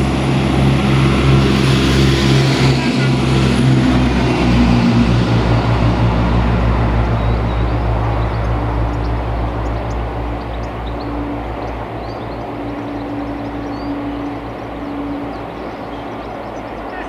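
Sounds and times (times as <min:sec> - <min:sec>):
diesel locomotive engine throbbing: 0:00.0 - 0:17.0.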